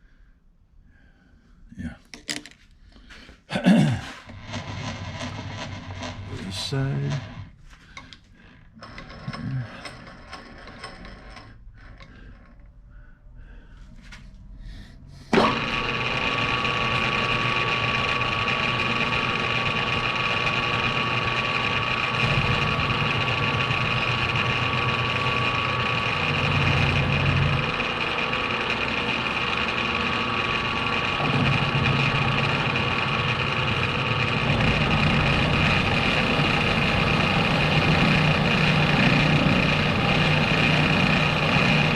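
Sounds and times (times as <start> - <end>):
machine tool whining: 4.2 - 12.8, 15.2 - 41.9.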